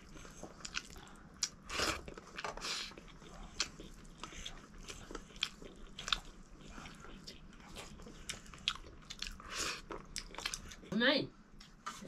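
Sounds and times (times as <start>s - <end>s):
person chewing food: 0.0s - 10.9s.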